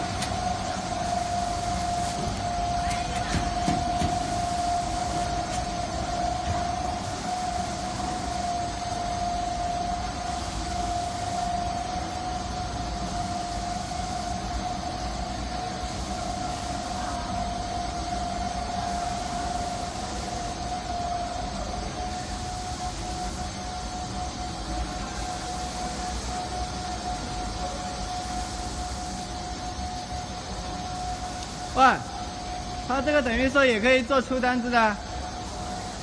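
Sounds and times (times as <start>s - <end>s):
industrial machinery whining: 0.0s - 36.0s.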